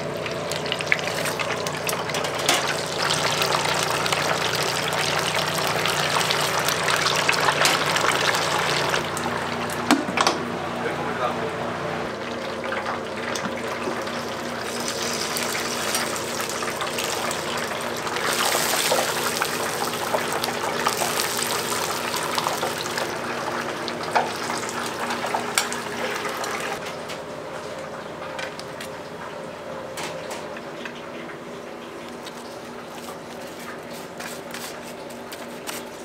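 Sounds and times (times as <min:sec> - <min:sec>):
oil sizzling and bubbling in fryer: 0:00.0 - 0:10.3, 0:12.0 - 0:36.0
steady machine hum: 0:00.0 - 0:34.2.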